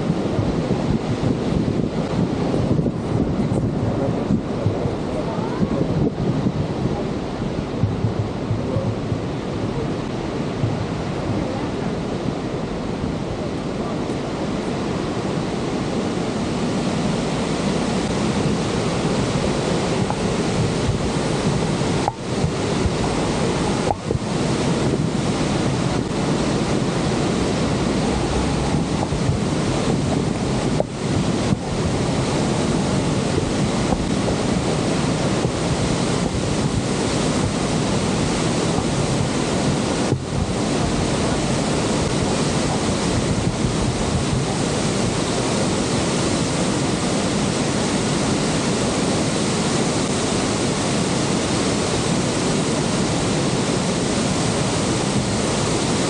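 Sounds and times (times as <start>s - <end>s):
waterfall roaring: 0.0s - 56.0s
wind buffeting the microphone: 0.0s - 56.0s.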